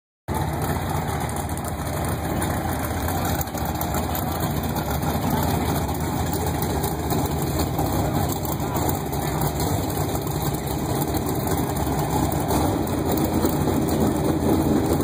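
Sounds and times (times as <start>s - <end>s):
race car engine idling: 0.3s - 15.0s.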